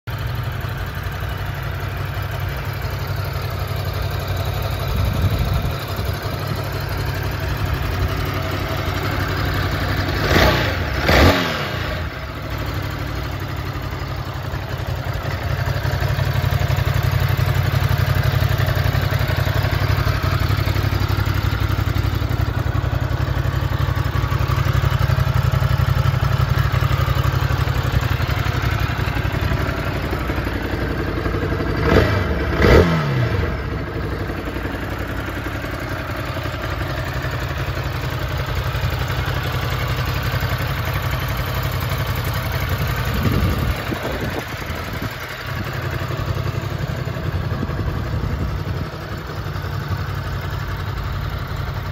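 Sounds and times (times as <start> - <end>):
motorcycle engine idling: 0.1 - 51.9.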